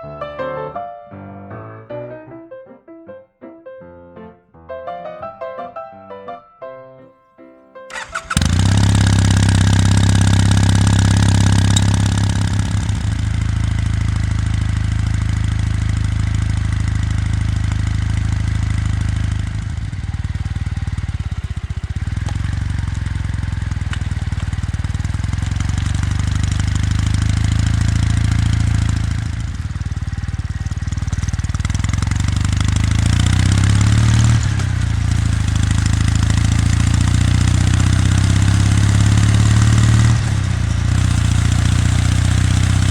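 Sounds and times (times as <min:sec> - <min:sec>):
motorcycle engine running: 0:07.9 - 0:42.9.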